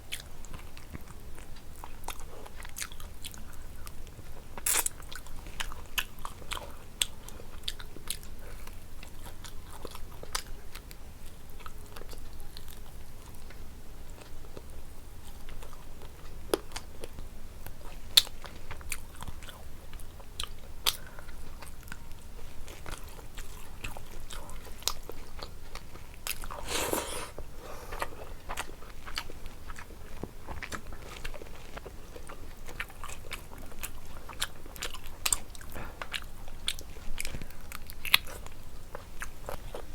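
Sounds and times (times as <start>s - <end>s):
person chewing food: 0.1s - 13.6s, 17.8s - 39.9s.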